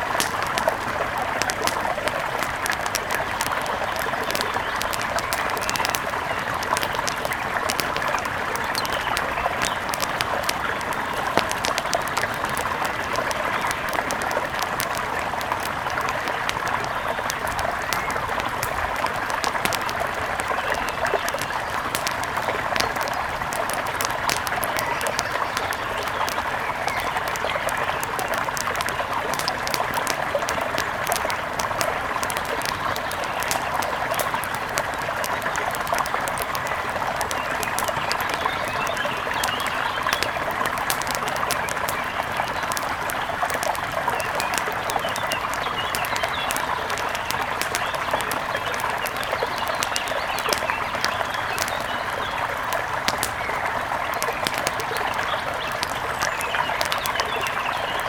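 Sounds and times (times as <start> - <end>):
faint crackles: 0.0 - 58.0
small birds chirping: 0.0 - 58.0.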